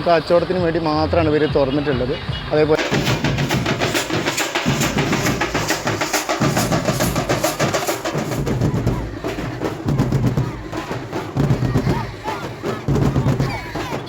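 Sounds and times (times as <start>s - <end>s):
fast heavy drumming: 0.5s - 14.0s.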